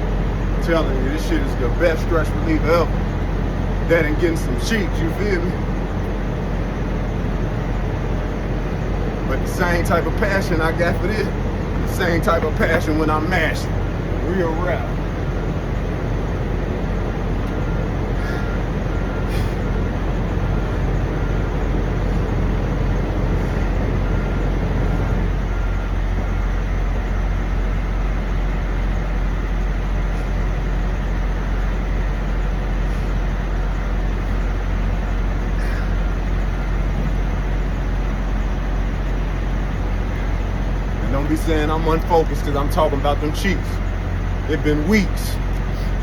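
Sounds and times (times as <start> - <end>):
diesel truck engines idling: 0.0 - 46.0
passing traffic: 0.0 - 46.0.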